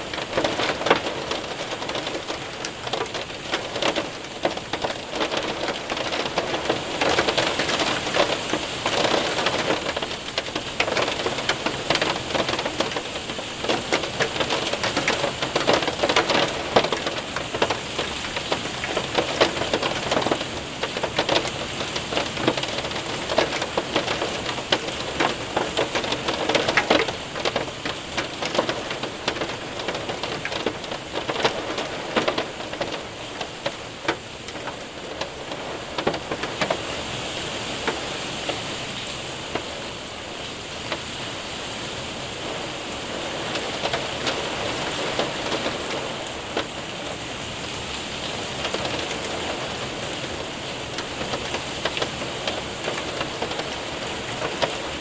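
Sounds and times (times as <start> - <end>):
hail clattering on window: 0.0 - 41.1, 42.4 - 55.0
rain hissing: 0.0 - 55.0.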